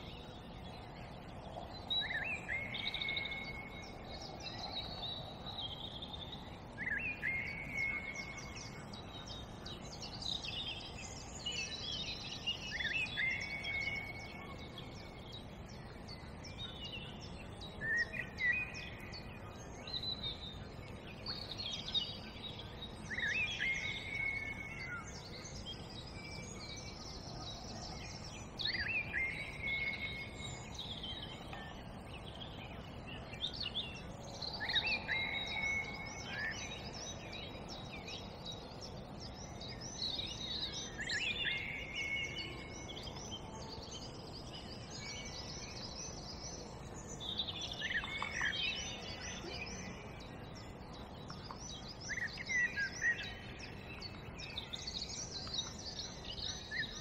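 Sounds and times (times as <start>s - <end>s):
low background noise: 0.0s - 57.0s
songbirds singing: 0.0s - 57.0s.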